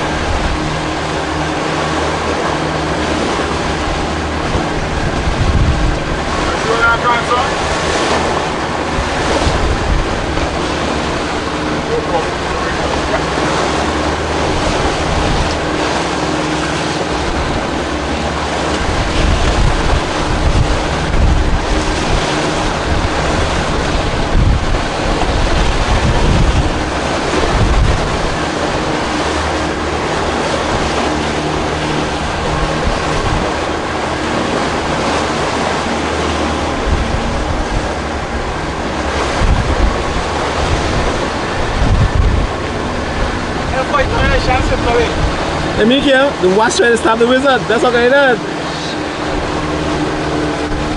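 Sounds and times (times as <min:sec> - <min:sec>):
low engine hum: 0:00.0 - 0:50.9
water washing past boat: 0:00.0 - 0:50.9
wind buffeting microphone: 0:00.0 - 0:50.9.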